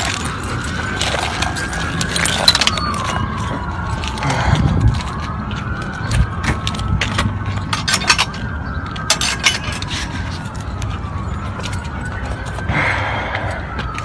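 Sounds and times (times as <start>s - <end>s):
wailing emergency siren: 0.0s - 14.0s.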